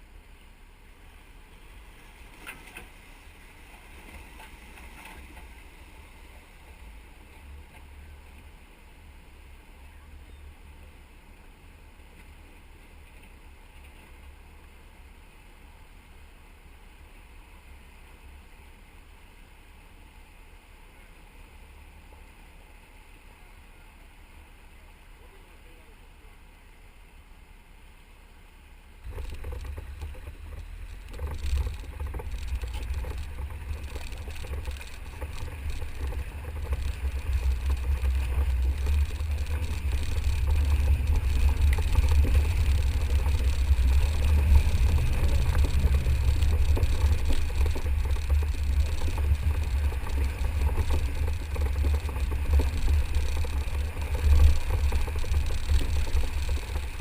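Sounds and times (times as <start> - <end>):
vehicle rumbling low: 0.0 - 57.0.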